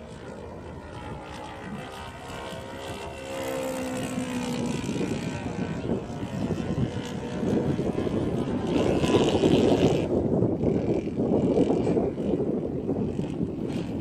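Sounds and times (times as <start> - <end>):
model plane engine running: 0.0 - 14.0.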